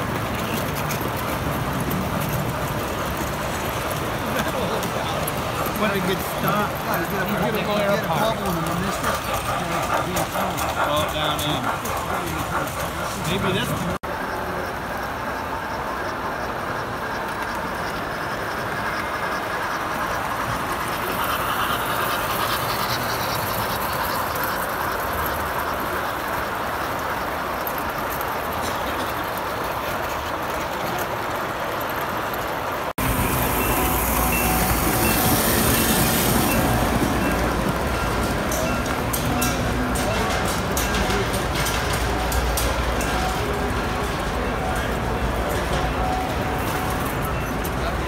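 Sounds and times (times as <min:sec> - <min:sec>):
model train wheels rattling on track: 0:00.0 - 0:48.0.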